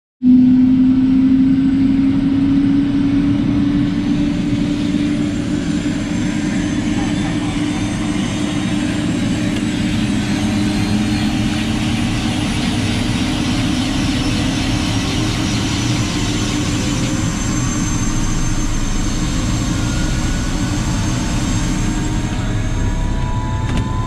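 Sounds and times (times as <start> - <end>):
helicopter engine and rotor drone: 0.2 - 24.0.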